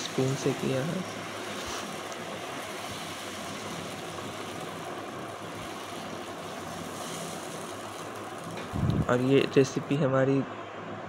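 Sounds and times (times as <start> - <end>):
batter hissing on hot pan: 0.0 - 10.0.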